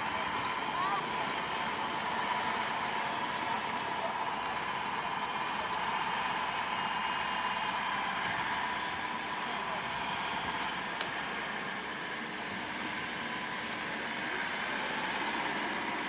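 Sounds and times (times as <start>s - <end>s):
combine harvester running: 0.0s - 16.0s
high machine whine: 0.0s - 16.0s.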